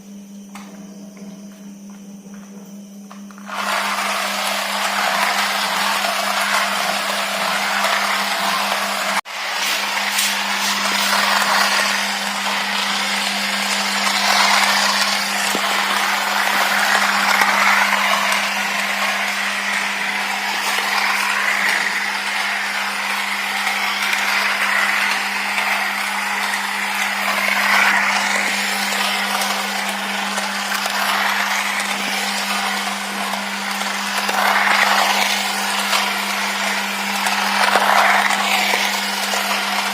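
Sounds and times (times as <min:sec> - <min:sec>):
toy train motor humming: 0:03.3 - 0:39.9
toy train wheels rattling on track: 0:03.5 - 0:39.9.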